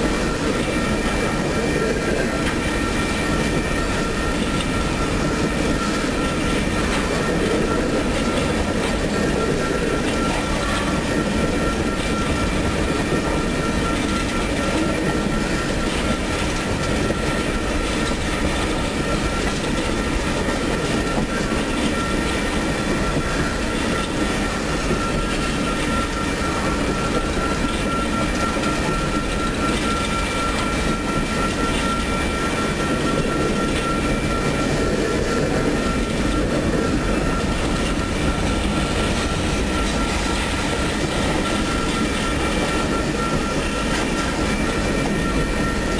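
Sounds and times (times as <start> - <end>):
freight train wheels rumbling on rail: 0.0 - 45.9.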